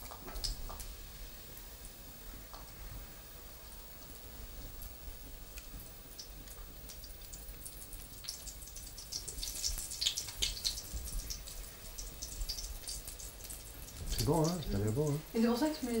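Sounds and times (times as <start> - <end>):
battered food frying in hot oil: 0.0 - 16.0.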